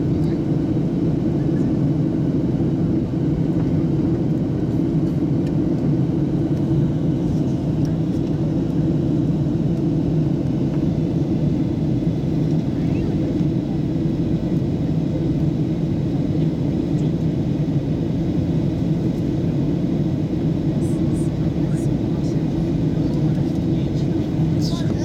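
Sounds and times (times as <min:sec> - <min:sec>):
jet cabin engine rumble: 0:00.0 - 0:25.0.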